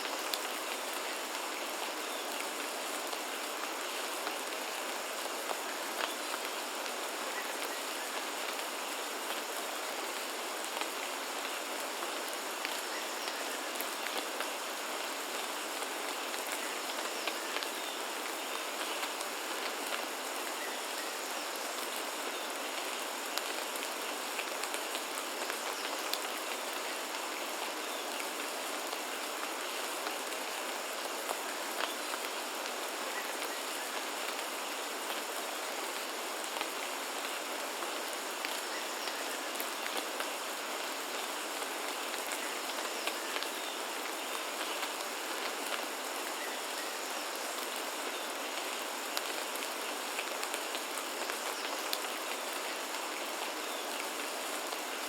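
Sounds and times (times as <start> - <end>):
rain drops striking surfaces: 0.0 - 55.0.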